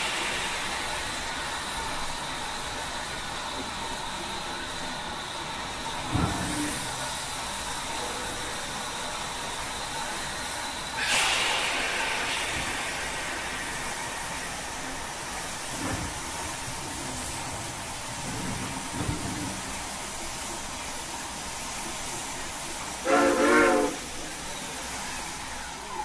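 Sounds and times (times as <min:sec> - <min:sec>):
model locomotive steam hiss: 0:00.0 - 0:26.0.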